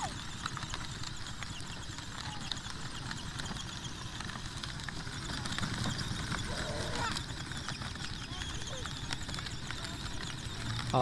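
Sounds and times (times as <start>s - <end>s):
plastic wheels crunching over dirt: 0.0s - 11.0s.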